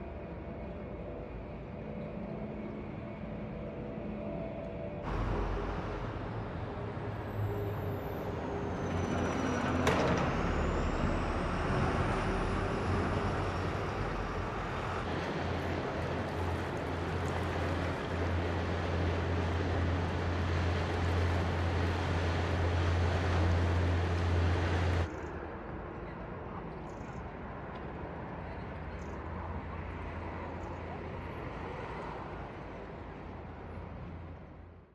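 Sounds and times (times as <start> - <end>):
ferry engine rumble: 0.7 - 34.8.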